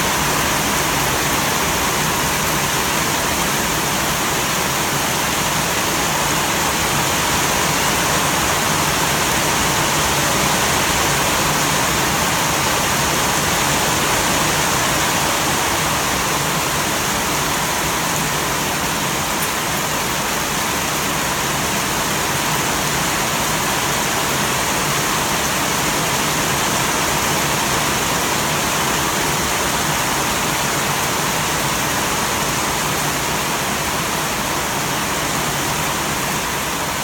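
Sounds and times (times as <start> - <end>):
heavy rain on foliage and roof: 0.0 - 37.0.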